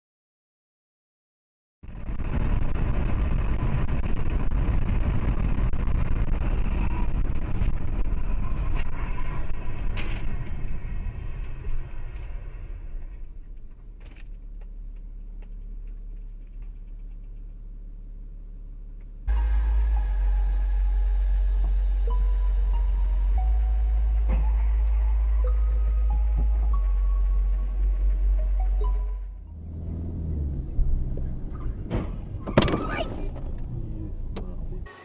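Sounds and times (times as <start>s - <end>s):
road and engine rumble: 1.8s - 35.0s.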